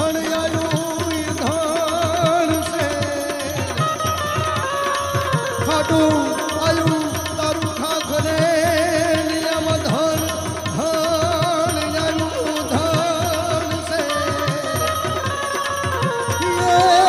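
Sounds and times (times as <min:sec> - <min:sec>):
tabla playing a steady rhythm: 0:00.0 - 0:17.0
wavering melody with vibrato: 0:00.0 - 0:17.0.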